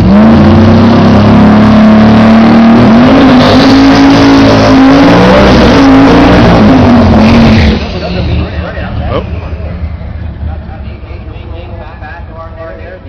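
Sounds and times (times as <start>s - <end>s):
loud car engine revving high: 0.0s - 12.9s.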